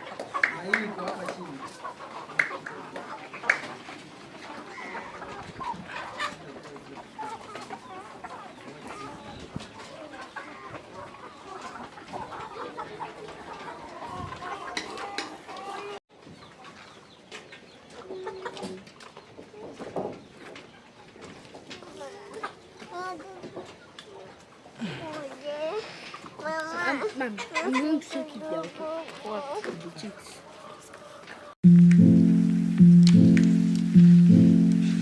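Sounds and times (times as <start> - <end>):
chickens clucking: 0.0 - 31.6.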